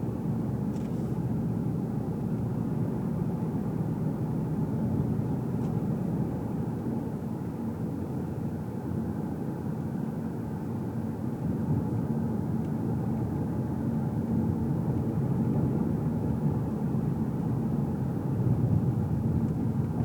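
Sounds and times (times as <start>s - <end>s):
engine and tyres rumbling: 0.0s - 20.0s
faint engine hum: 0.0s - 20.0s.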